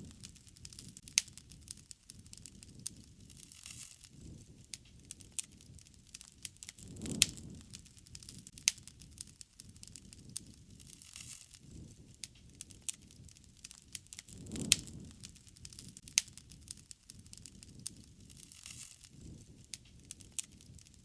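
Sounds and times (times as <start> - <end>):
low flame rumble: 0.0 - 21.0
wood fire crackling and popping: 0.0 - 21.0.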